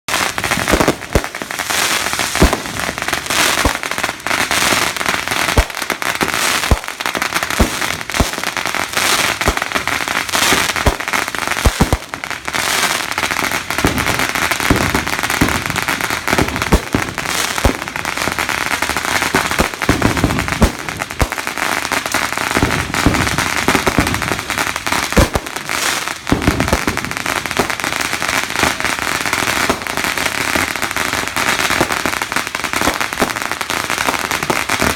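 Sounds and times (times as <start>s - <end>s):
fireworks crackling and banging: 0.1s - 34.9s.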